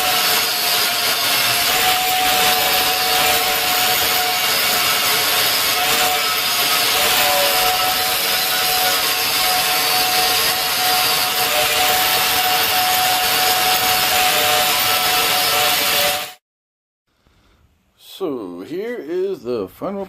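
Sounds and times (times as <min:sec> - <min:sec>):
belt sander motor whine: 0:00.0 - 0:16.4.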